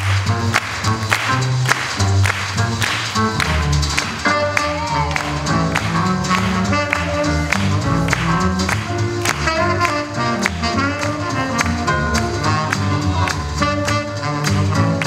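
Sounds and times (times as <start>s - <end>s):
swing jazz with brass: 0.0s - 15.0s.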